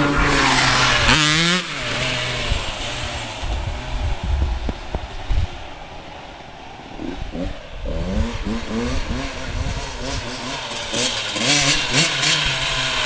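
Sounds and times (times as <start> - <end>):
dirt bike engine revving: 0.0 - 5.6, 6.9 - 13.0.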